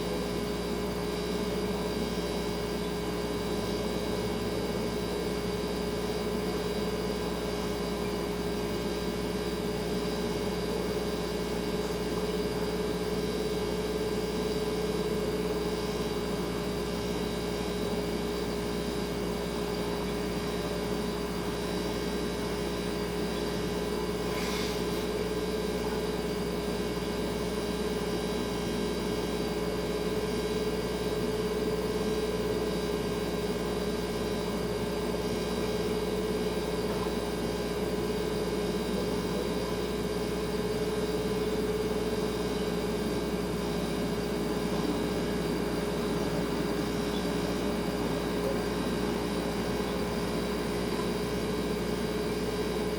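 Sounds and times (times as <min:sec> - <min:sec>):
refrigerator humming: 0:00.0 - 0:52.9.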